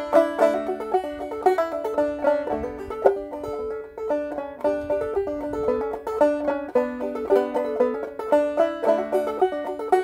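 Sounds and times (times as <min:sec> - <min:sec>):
banjo plucked notes: 0:00.0 - 0:10.0.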